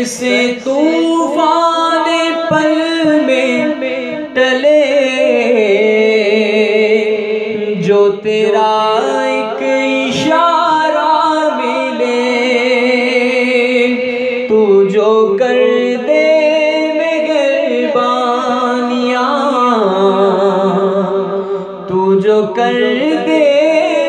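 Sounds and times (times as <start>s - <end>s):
layered vocal backing: 0.0s - 24.0s
man singing: 0.0s - 24.0s.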